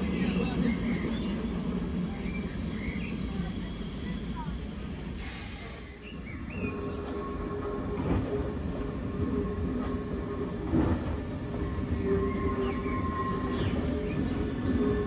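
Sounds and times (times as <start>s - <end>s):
train hum: 0.0s - 15.0s.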